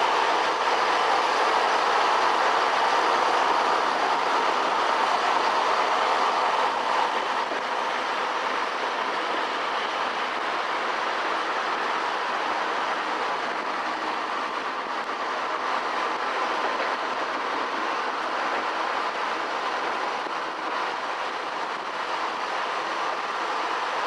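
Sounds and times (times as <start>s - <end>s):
train wheels running on rails: 0.0s - 24.0s.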